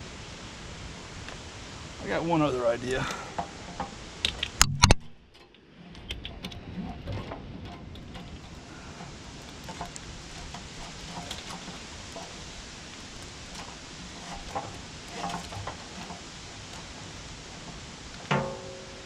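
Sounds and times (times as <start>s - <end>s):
steady background hiss: 0.0s - 19.0s
clicks of hands on hoses: 2.9s - 19.0s.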